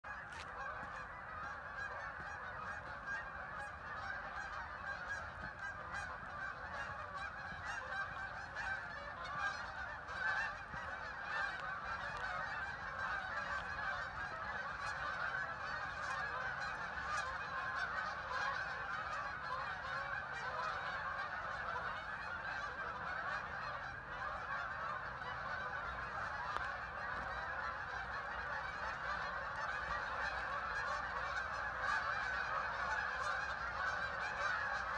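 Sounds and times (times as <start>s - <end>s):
flock of waterfowl calling: 0.0s - 34.9s.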